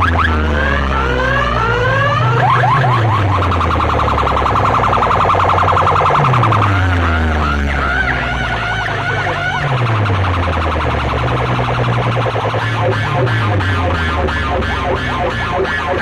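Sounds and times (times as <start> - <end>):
deep sliding bass tones: 0.0 - 16.0
electronic siren sweeps: 0.0 - 16.0
fast warbling tone: 0.0 - 16.0.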